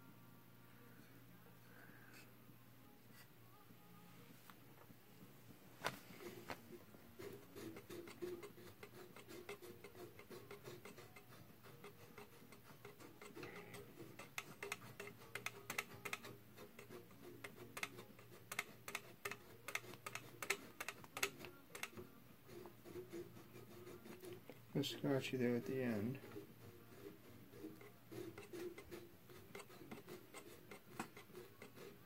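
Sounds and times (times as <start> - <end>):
scratchy bearing: 5.8 - 32.0.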